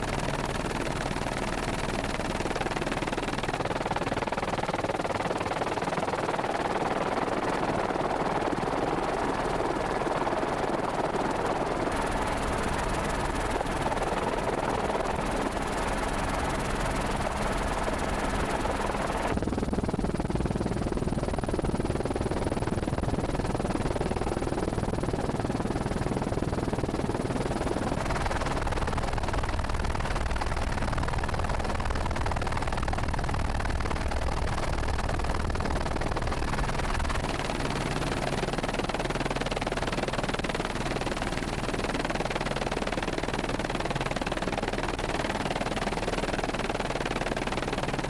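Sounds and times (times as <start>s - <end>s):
helicopter engine and rotors: 0.0s - 48.0s.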